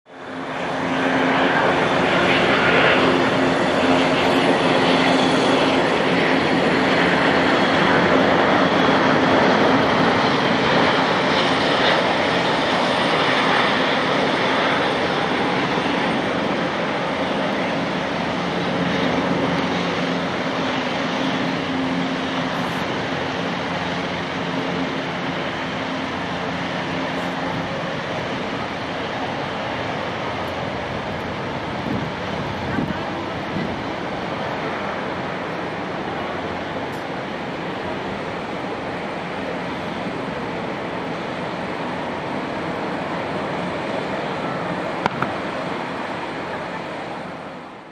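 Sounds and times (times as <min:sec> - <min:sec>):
faint high engine whine: 0:00.1 - 0:47.9
jet engines roaring: 0:00.1 - 0:47.9.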